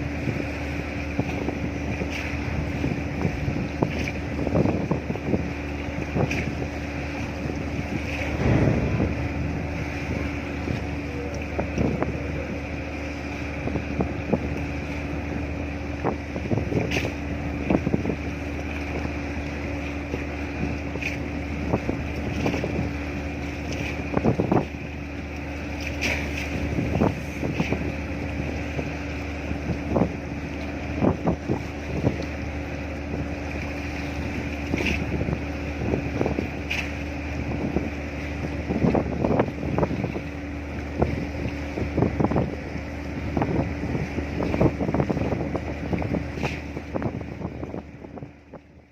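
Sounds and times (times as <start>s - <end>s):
boat engine droning: 0.0s - 48.9s
wind buffeting microphone: 0.0s - 48.9s.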